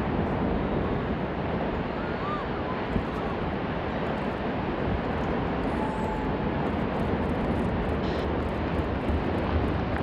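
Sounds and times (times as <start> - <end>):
water churning spray: 0.0 - 10.0.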